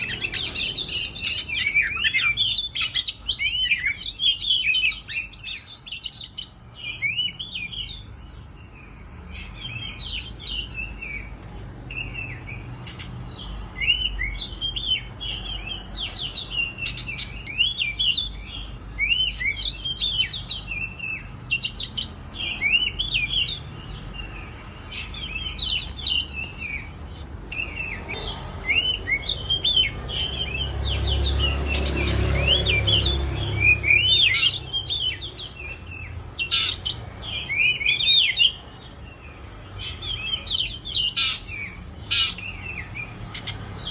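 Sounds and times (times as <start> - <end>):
bird whistling song: 0.0 - 43.9.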